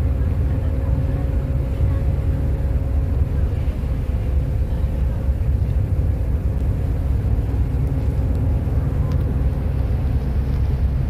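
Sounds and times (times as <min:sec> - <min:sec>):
ferry engine drone: 0:00.0 - 0:11.0
water washing along hull: 0:00.0 - 0:11.0
wind on microphone: 0:00.0 - 0:11.0.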